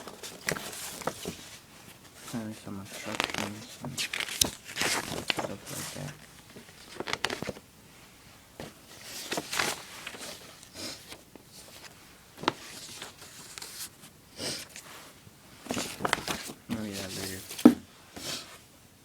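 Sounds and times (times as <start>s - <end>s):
paper and box rustling: 0.0s - 7.6s, 8.6s - 18.6s.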